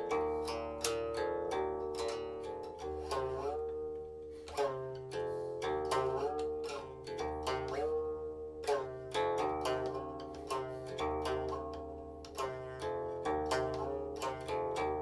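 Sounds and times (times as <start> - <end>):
plucked zither notes sliding: 0.0 - 15.0.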